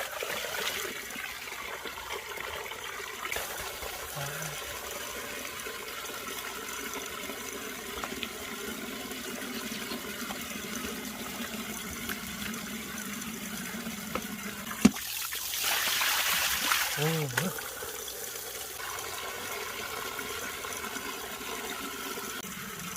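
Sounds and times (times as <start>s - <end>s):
shower water running: 0.0s - 22.9s.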